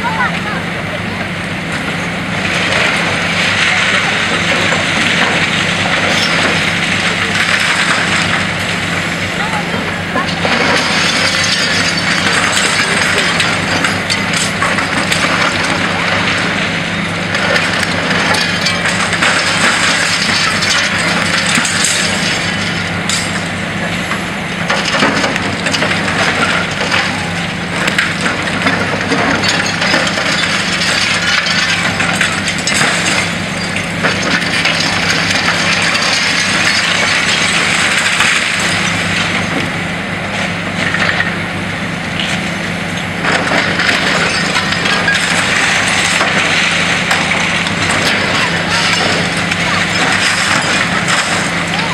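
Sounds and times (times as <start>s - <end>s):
low machine drone: 0.0s - 51.9s
concrete crunching and cracking: 1.8s - 51.9s
falling debris clattering: 2.4s - 51.9s.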